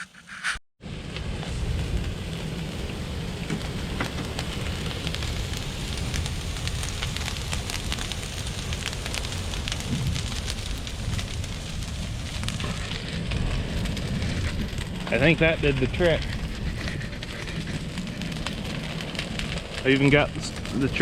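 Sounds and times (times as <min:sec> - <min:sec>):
fire crackling and popping: 0:00.0 - 0:21.0
fire roaring: 0:00.2 - 0:21.0.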